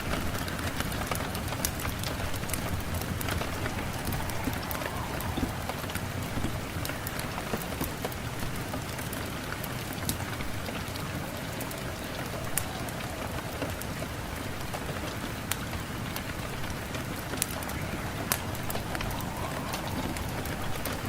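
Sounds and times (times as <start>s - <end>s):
raindrops tapping a surface: 0.0s - 21.0s
steady rain falling: 0.0s - 21.0s.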